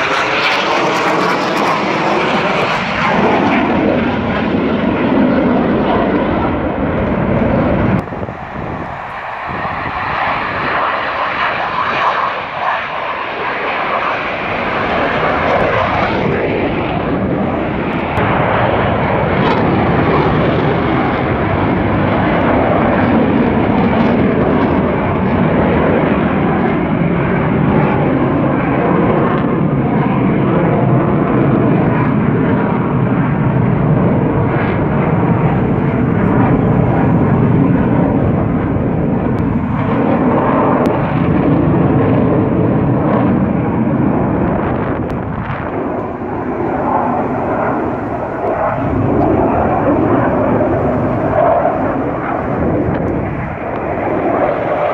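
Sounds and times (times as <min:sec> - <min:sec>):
fighter jet engine roar: 0:00.0 - 0:54.9.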